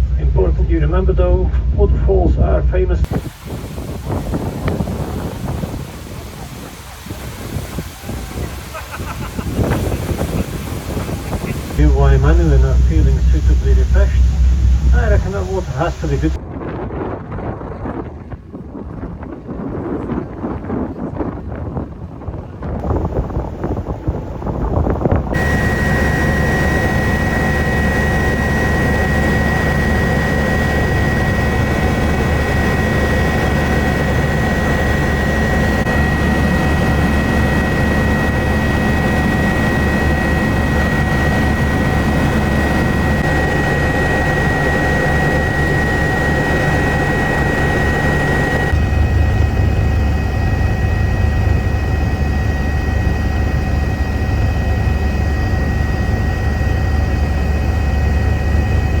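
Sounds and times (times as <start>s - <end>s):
helicopter rotor and engine noise: 3.0s - 16.4s, 20.6s - 59.0s
high-pitched turbine whine: 3.0s - 16.4s, 22.8s - 59.0s.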